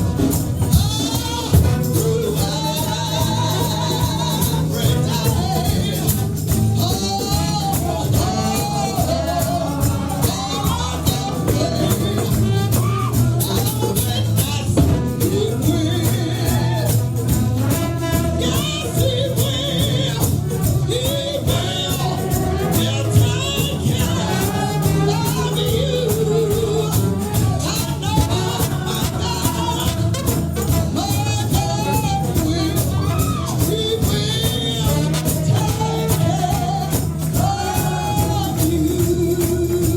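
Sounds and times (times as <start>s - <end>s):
gospel band music: 0.0s - 39.9s
voices singing: 0.0s - 39.9s.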